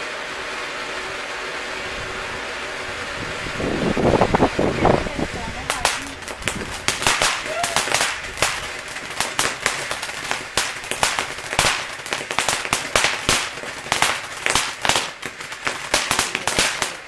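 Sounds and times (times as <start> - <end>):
firework crackling pops: 0.0 - 17.0
firework fountain hissing: 0.0 - 17.0.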